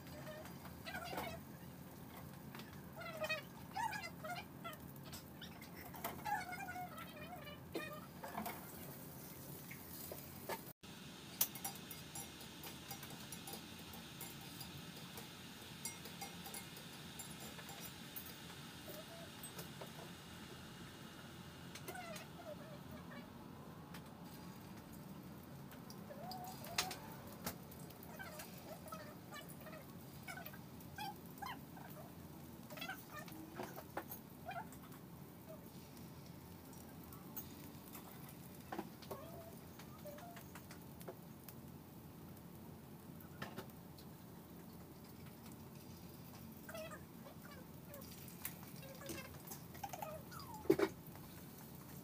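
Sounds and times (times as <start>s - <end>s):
low kitchen room noise: 0.0s - 52.0s.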